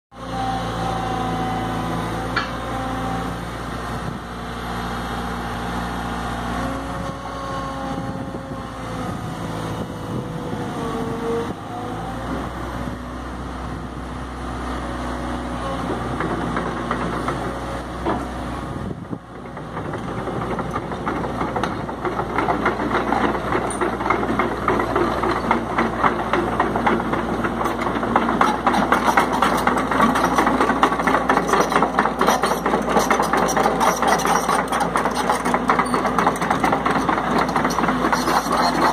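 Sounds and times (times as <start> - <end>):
excavator diesel engine idling: 0.2 - 38.9.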